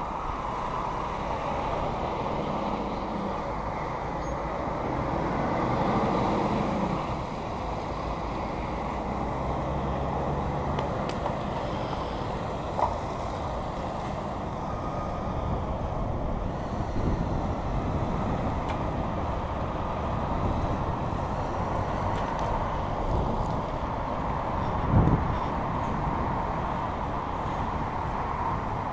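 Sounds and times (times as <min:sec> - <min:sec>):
lorry engine humming: 0:00.0 - 0:28.9
road and wind rumble: 0:00.0 - 0:28.9.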